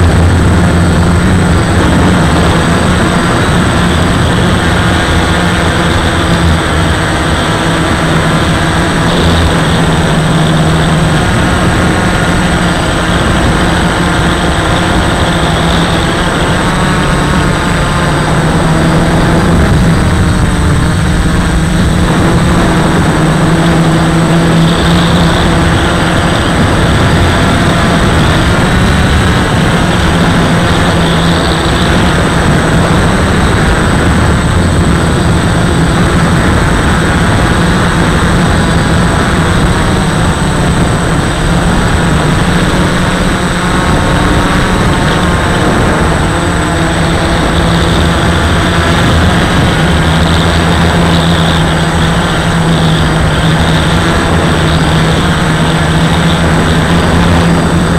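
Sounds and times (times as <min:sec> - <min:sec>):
drone motors buzzing: 0:00.0 - 0:57.9
high-pitched whine: 0:00.0 - 0:57.9.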